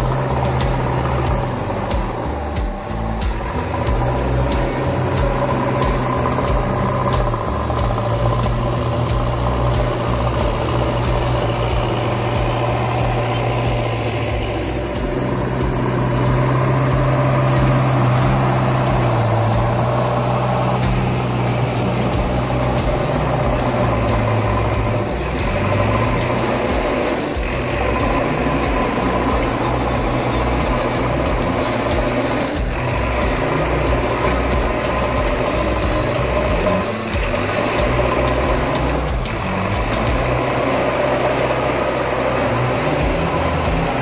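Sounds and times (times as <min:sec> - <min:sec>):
loader scooping gravel: 0:00.0 - 0:44.0
tractor diesel engine running: 0:00.0 - 0:44.0.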